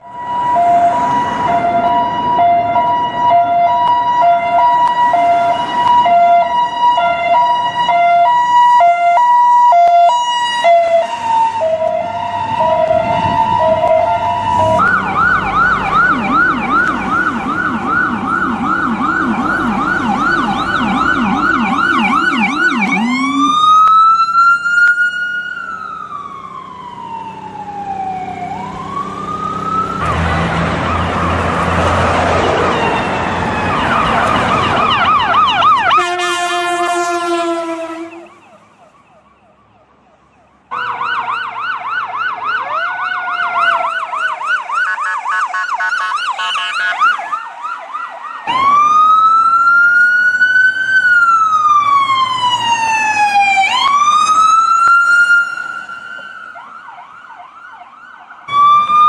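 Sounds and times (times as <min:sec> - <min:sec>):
ambulance siren: 0:00.0 - 0:59.0.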